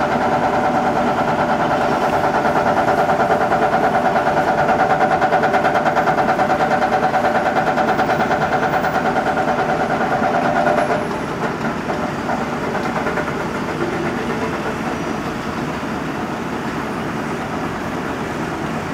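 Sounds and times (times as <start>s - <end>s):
diesel engine working under load: 0.0s - 18.9s.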